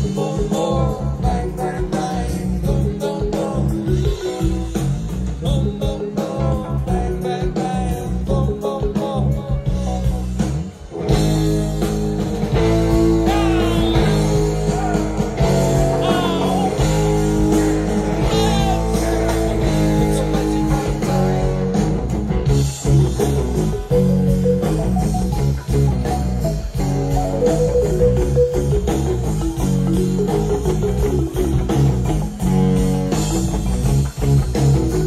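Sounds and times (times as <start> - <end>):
electric guitar bending notes: 0.0 - 35.0
live rock band playing: 0.0 - 35.0.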